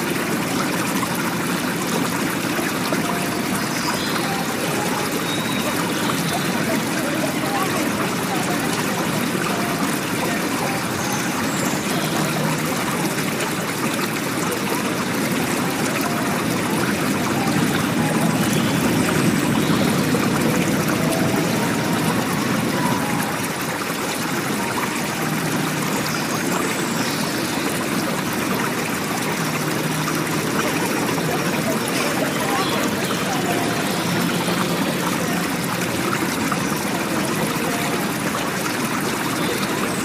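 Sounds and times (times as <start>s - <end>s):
water running and splashing: 0.0s - 40.0s.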